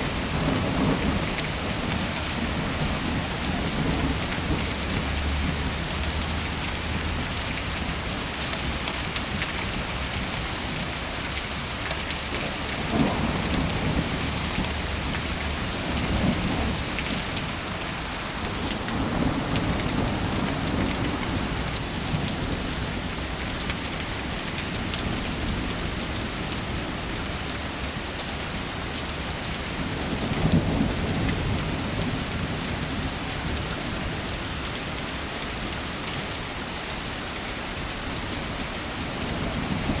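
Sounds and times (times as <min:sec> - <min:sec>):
heavy rain pattering: 0:00.0 - 0:40.0.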